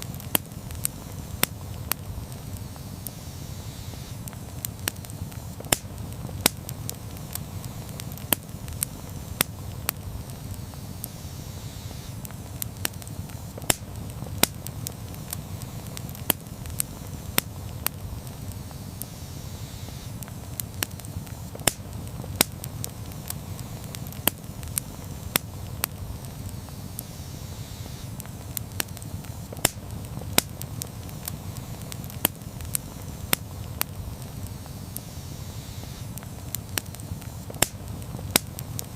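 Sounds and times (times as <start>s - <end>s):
fire crackling and popping: 0.0s - 38.9s
low rush of flames: 0.0s - 38.9s.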